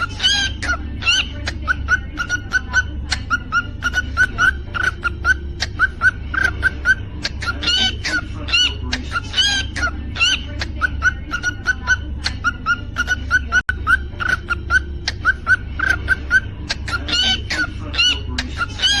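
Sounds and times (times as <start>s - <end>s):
cockatiel chirping and whistling: 0.0s - 19.0s.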